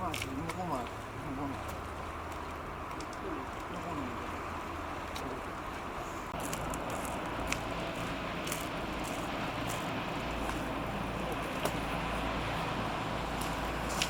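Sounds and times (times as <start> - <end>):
boat engine rumble: 0.0 - 14.0.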